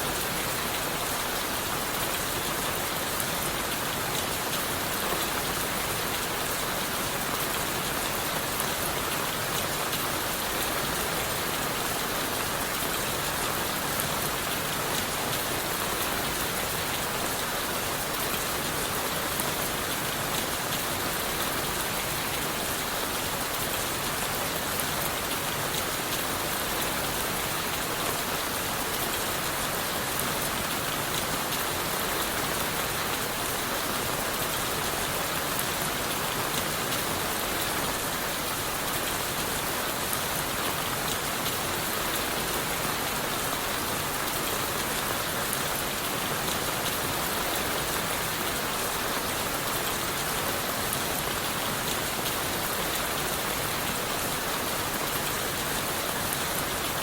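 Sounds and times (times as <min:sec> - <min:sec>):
rain on leaves and wood: 0:00.0 - 0:57.0.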